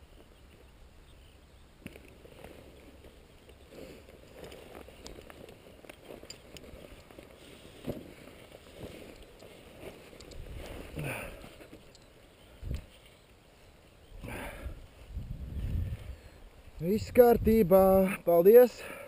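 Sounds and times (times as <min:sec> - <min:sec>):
footsteps in dry grass: 0:00.0 - 0:14.1, 0:14.8 - 0:16.9.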